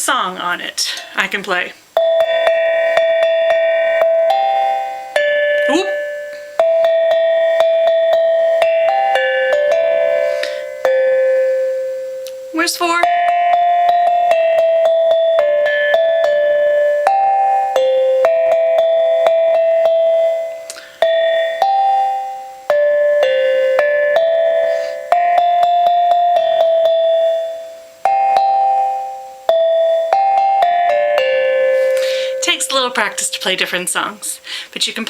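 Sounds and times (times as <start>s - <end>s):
slit drum melody: 0.0s - 35.0s.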